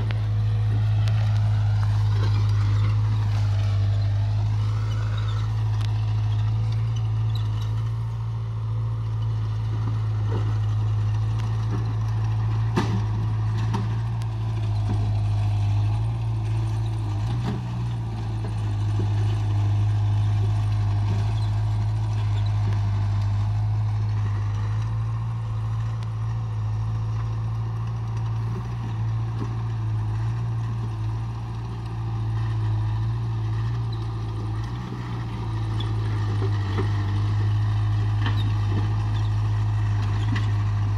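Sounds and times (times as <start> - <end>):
low engine hum: 0.0 - 40.9.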